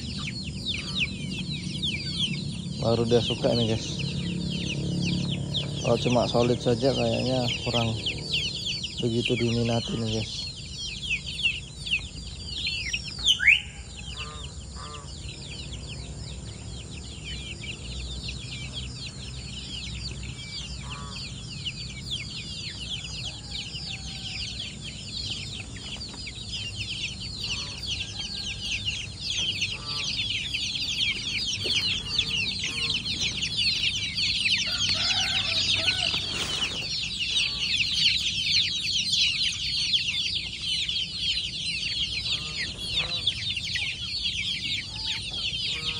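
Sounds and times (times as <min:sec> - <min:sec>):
hen clucks: 0:00.0 - 0:12.1, 0:20.1 - 0:45.9
chicks peeping: 0:00.0 - 0:45.9.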